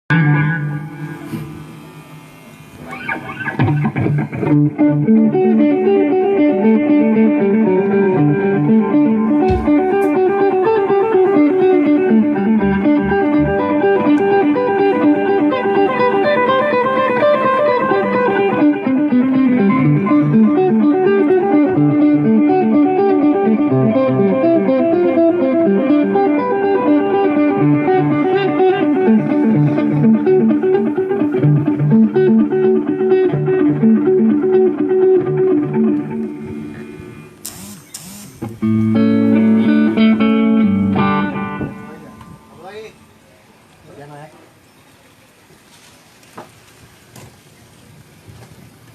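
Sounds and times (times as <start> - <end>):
electric guitar quick plucked notes: 0.1 - 43.1.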